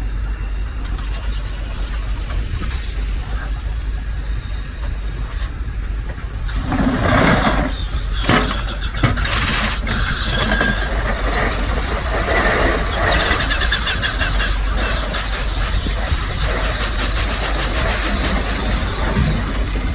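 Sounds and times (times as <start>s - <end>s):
excavator machinery working: 0.0s - 19.9s
steam hissing: 0.0s - 19.9s.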